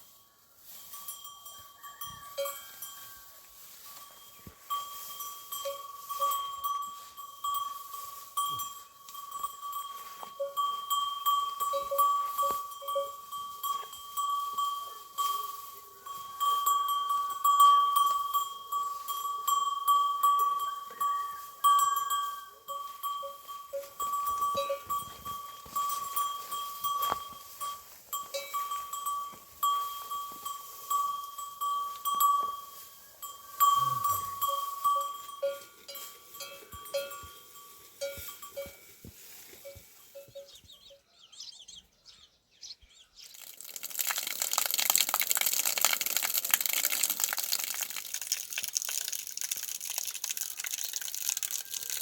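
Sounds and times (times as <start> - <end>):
livestock neck bells clanking: 0.0 - 41.5, 43.4 - 52.0.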